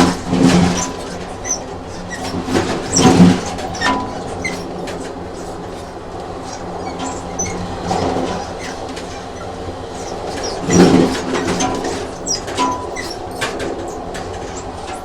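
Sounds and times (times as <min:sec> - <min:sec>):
short high squeaks: 0:00.0 - 0:15.0
train rumbling on rails: 0:00.0 - 0:15.0
wheels clicking over track: 0:00.0 - 0:15.0.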